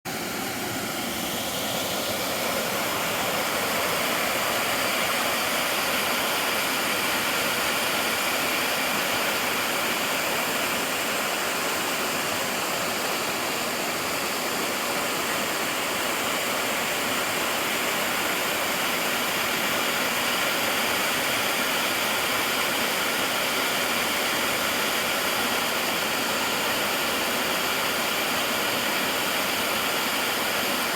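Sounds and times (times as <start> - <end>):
stream water rushing: 0.1 - 30.9.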